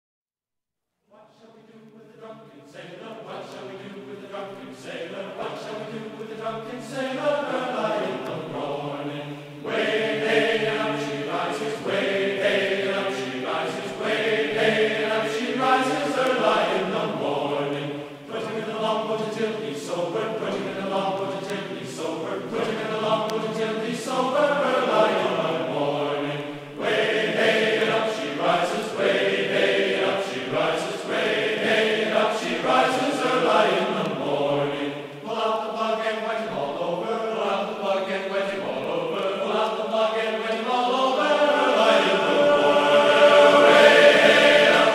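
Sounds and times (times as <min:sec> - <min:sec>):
choral chanting: 0:01.1 - 0:44.9.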